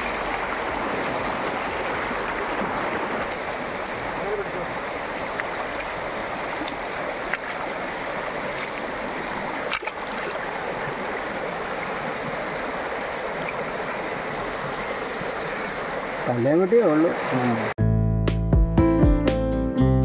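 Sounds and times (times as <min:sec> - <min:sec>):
canal water rushing: 0:00.0 - 0:17.8.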